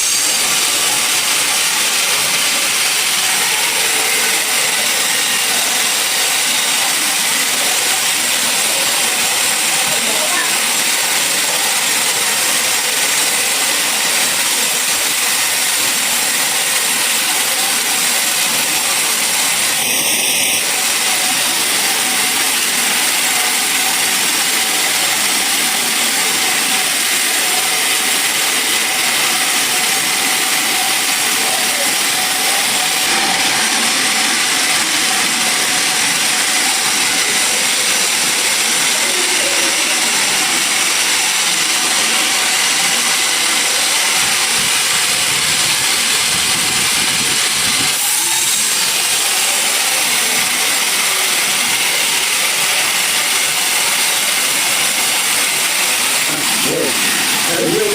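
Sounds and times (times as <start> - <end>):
sawmill machinery running: 0.0 - 57.9.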